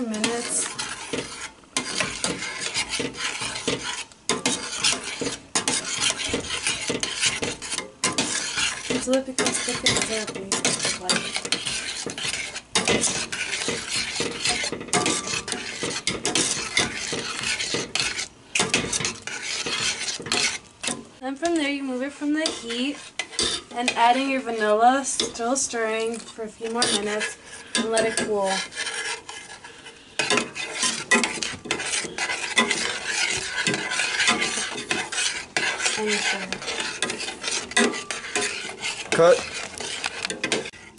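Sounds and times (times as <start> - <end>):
utensil scraping saucepan: 0.0 - 40.9.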